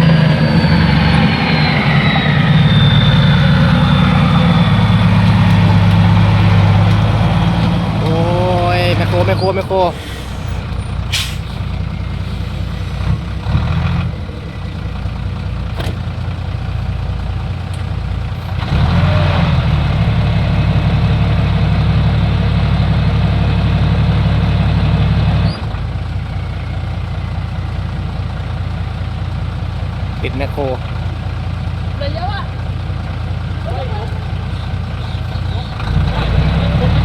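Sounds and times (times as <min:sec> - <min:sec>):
diesel engine idling and revving: 0:00.0 - 0:37.0.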